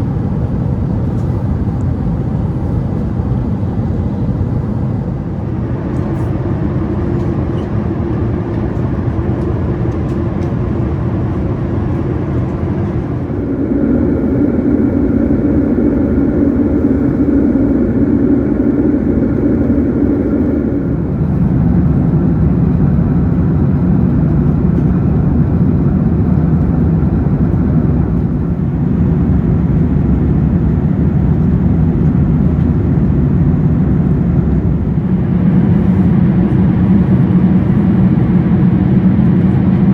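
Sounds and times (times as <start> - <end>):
jet airliner engine drone: 0.0 - 39.9.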